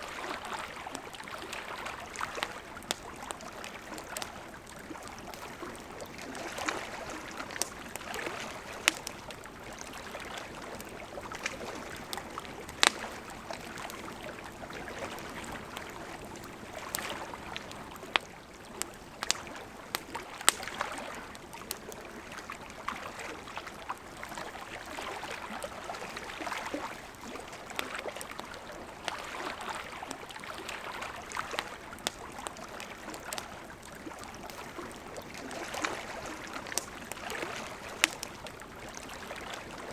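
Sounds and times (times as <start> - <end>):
river flowing: 0.0 - 39.9
campfire crackling and popping: 0.2 - 39.9.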